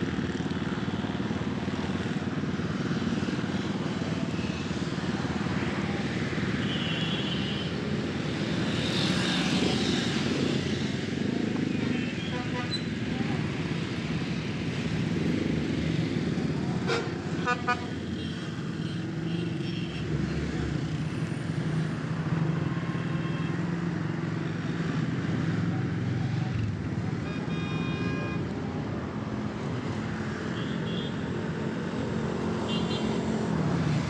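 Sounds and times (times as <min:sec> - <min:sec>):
road traffic passing: 0:00.0 - 0:34.0.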